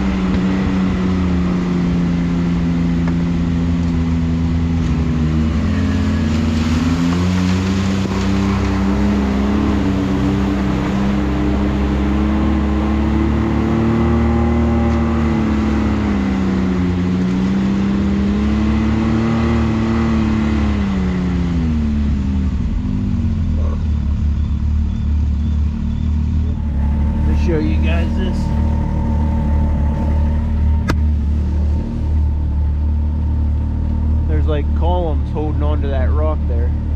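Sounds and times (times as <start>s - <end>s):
off-road vehicle engine running: 0.0s - 36.9s.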